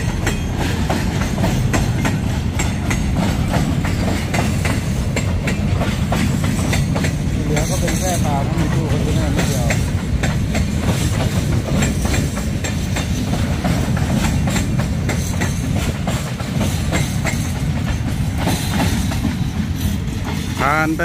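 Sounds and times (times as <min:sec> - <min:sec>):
wheels clicking over rail joints: 0:00.0 - 0:20.8
freight wagons rumbling: 0:00.0 - 0:21.0.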